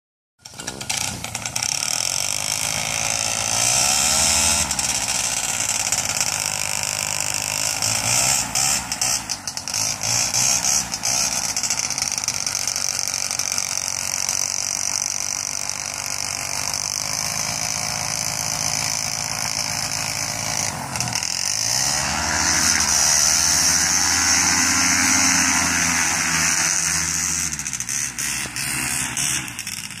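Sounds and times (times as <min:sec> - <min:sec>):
paramotor engine and propeller: 0:00.4 - 0:30.0.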